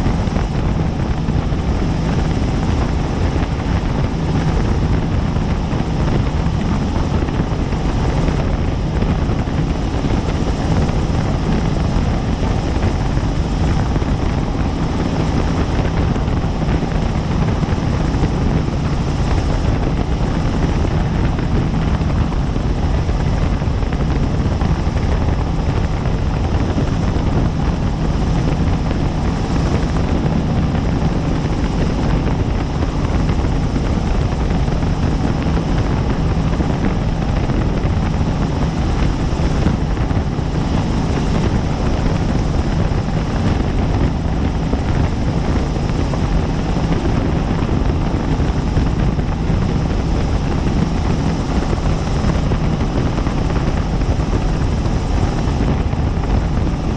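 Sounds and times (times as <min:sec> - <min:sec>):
helicopter rotor and turbine drone: 0:00.0 - 0:56.9.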